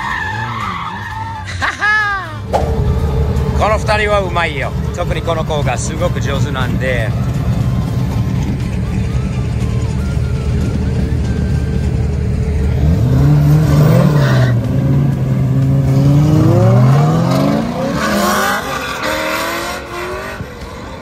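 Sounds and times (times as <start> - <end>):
car engines idling: 0.0 - 21.0
car engines revving and accelerating: 0.0 - 21.0.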